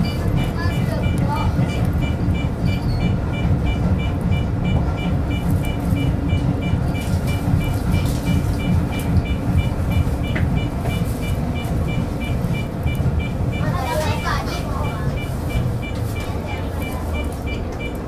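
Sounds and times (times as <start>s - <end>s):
rapid two-pitch electronic beep: 0.0s - 18.0s
train running rumble: 0.0s - 18.0s.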